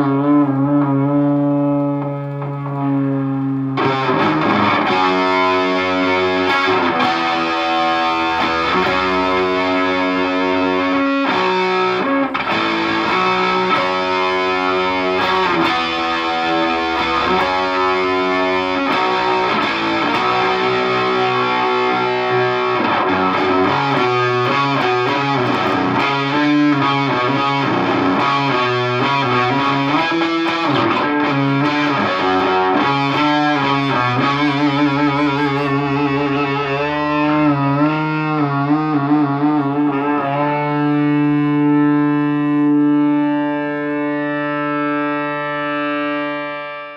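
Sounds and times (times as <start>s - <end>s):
distorted electric guitar: 0.0s - 46.9s.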